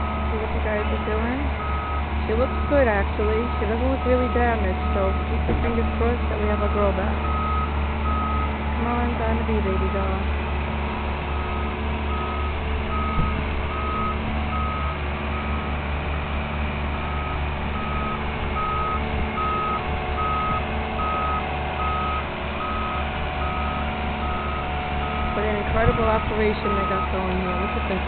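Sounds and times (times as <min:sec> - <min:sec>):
warning alarm beeping: 0:00.0 - 0:10.3, 0:11.5 - 0:15.7, 0:17.1 - 0:28.0
diesel engine running: 0:00.0 - 0:28.0.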